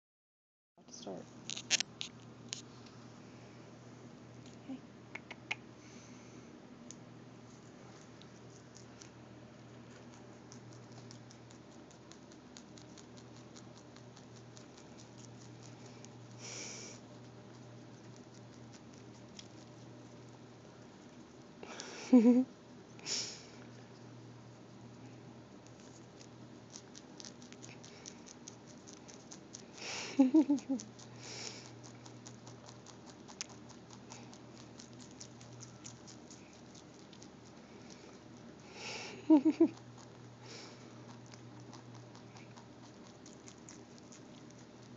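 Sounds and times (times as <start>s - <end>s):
rabbit chewing: 1.4s - 3.6s, 6.8s - 22.0s, 22.7s - 44.9s.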